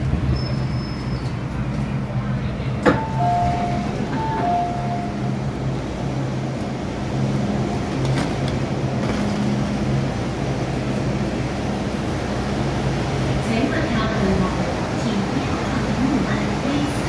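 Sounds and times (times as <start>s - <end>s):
train carriage rumble: 0.0s - 17.0s.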